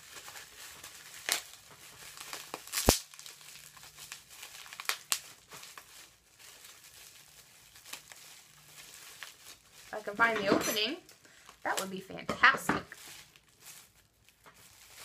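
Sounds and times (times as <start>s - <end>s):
packaging crinkling: 0.0s - 12.2s, 12.8s - 15.0s.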